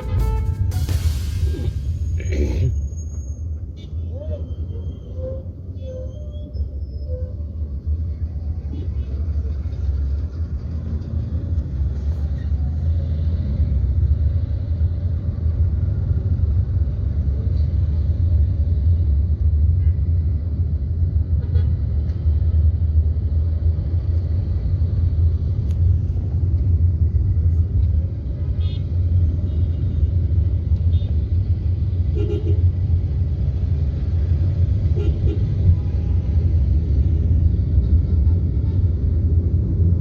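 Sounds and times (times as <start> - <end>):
traffic noise: 0.0 - 40.0
vehicle rumbling along road: 0.0 - 40.0.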